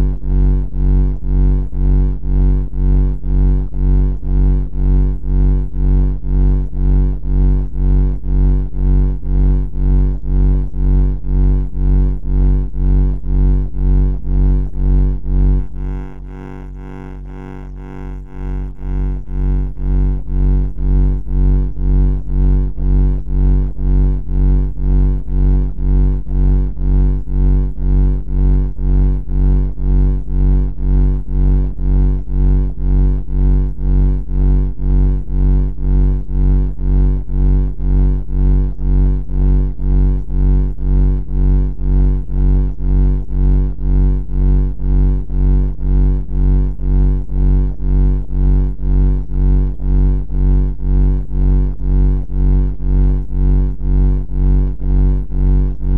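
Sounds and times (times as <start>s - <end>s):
pulsing low electronic buzz: 0.0s - 55.9s.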